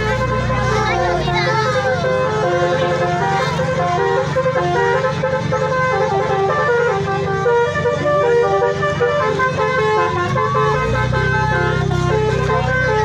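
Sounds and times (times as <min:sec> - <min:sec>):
bus engine idling: 0:00.0 - 0:13.0
bus multi-tone horn melody: 0:00.0 - 0:13.0.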